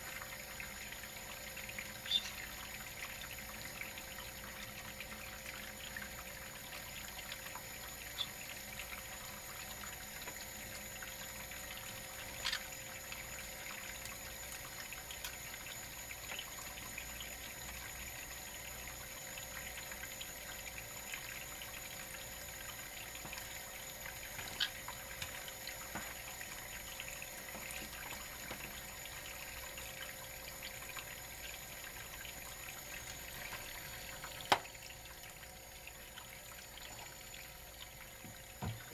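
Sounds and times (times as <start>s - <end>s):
tap water trickling onto plate: 0.0s - 18.1s, 18.7s - 38.9s.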